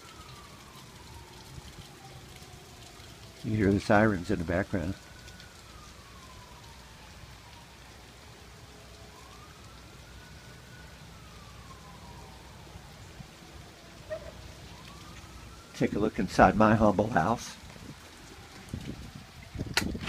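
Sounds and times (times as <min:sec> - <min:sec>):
distant siren wailing: 0:00.0 - 0:19.7
heavy rain hiss: 0:00.0 - 0:20.0.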